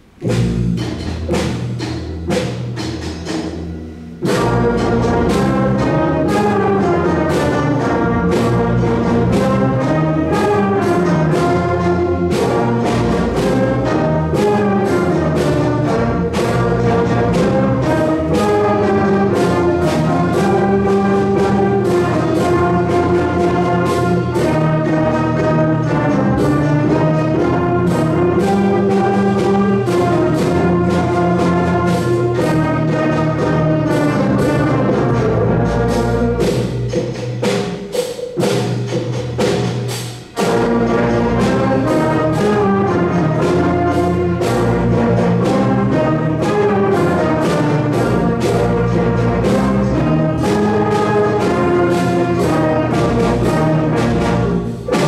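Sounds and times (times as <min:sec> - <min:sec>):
concert band playing: 0:00.0 - 0:55.0
drum strikes: 0:00.0 - 0:55.0.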